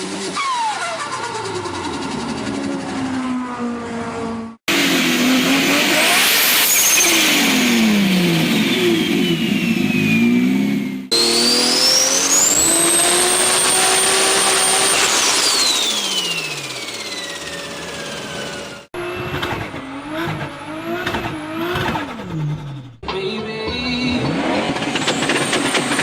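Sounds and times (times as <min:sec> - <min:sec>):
turbocharged car engine revving: 0:00.0 - 0:23.1, 0:23.8 - 0:26.0.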